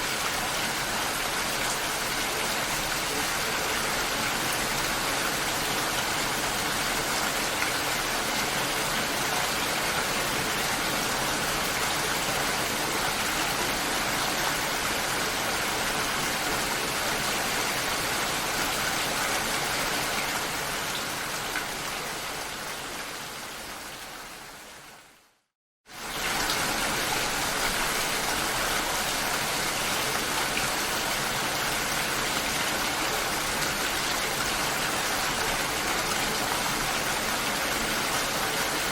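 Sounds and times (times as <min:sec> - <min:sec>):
steady dense rain: 0:00.0 - 0:38.9.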